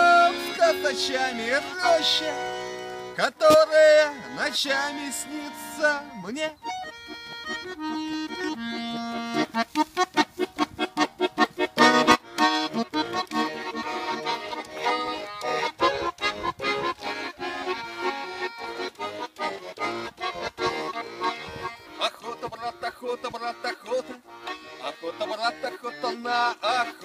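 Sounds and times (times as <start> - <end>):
button accordion playing: 0.0 - 27.0.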